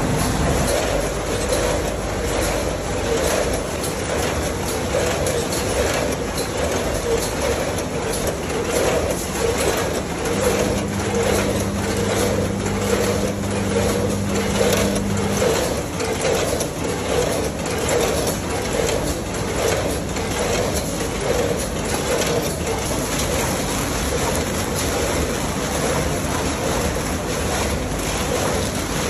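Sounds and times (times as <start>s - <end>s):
packaging machinery clatter: 0.0s - 29.0s.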